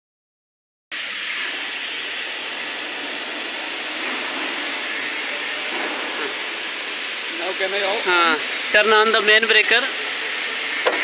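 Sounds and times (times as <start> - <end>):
steady rushing hiss: 0.9 - 11.0.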